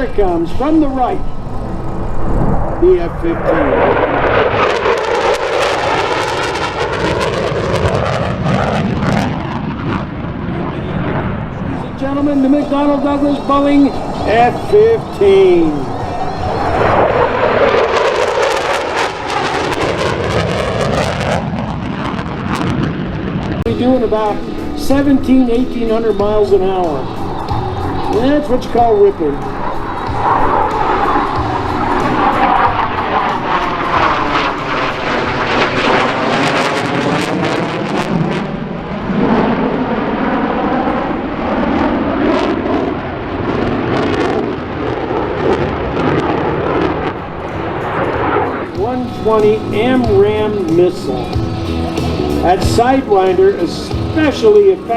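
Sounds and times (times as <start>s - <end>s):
fighter jet flyby: 0.0s - 54.9s.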